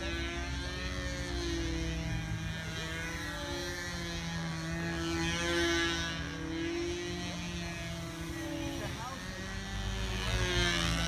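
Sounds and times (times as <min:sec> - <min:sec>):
model plane motor buzzing: 0:00.0 - 0:11.0.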